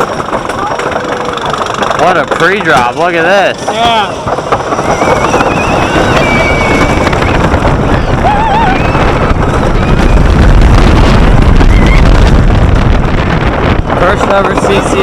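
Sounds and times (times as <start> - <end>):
roller coaster train rumbling: 0.0 - 15.0
wind rushing over microphone: 0.0 - 15.0.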